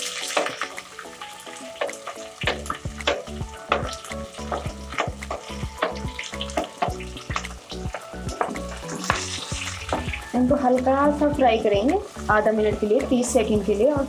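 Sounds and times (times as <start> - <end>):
onions sizzling in hot oil: 0.0 - 14.0
background music with beat: 0.1 - 14.0.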